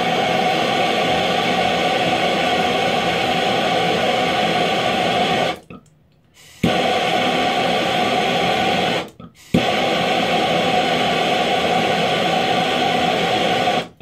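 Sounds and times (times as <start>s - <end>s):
blowtorch hissing: 0.0s - 5.6s, 6.4s - 14.0s.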